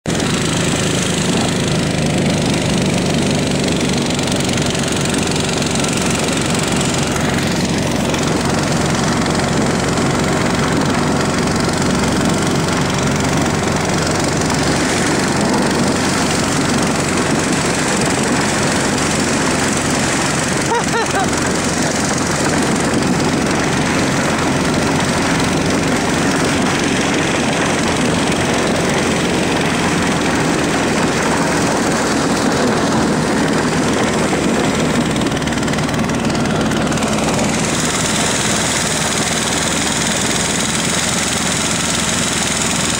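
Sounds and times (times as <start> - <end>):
engine droning: 0.0 - 42.9.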